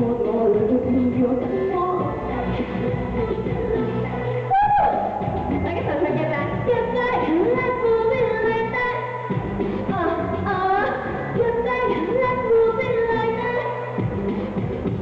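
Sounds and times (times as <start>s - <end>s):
woman singing: 0.0s - 14.1s
backing music: 0.0s - 15.0s.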